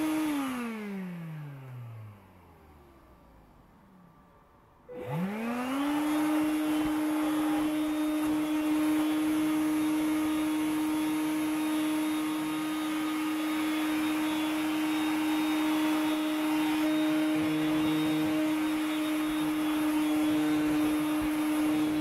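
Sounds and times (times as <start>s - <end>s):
vacuum motor whine: 0.0s - 22.0s.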